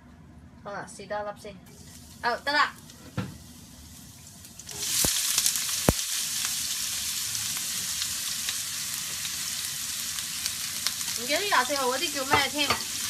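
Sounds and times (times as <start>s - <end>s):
onions sizzling in hot oil: 1.7s - 13.0s.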